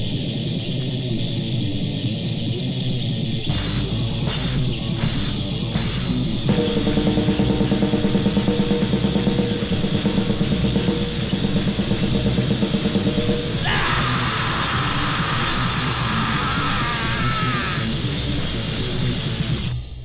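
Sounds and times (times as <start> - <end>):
bass: 0.0 - 20.0
distorted guitar: 0.0 - 20.0
fast drumming: 3.4 - 19.7.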